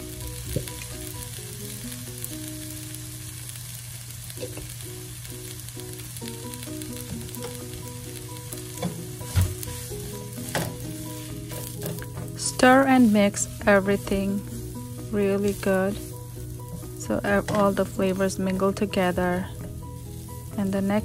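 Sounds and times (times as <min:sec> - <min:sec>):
rice sizzling in a pan: 0:00.0 - 0:21.0
soft background music: 0:00.0 - 0:21.0.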